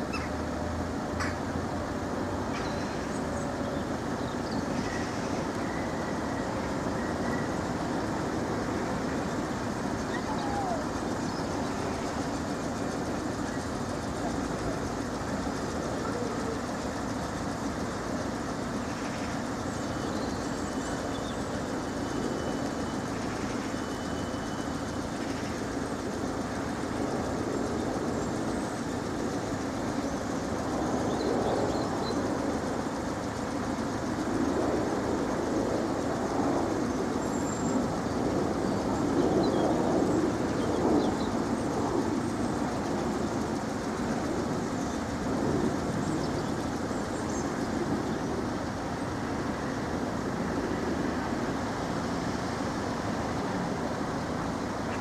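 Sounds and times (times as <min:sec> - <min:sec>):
electric train rumble and hum: 0:00.0 - 0:55.0.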